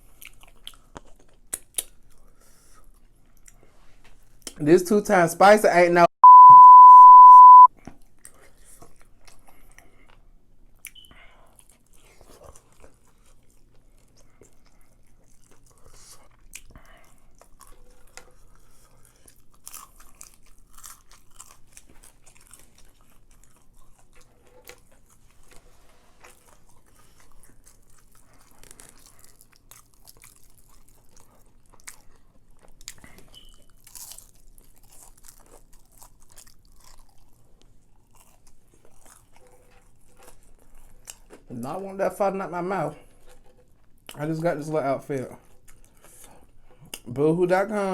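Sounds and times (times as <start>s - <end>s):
chewing and biting: 0.0s - 4.6s, 7.4s - 41.5s, 43.0s - 44.2s, 45.3s - 47.1s.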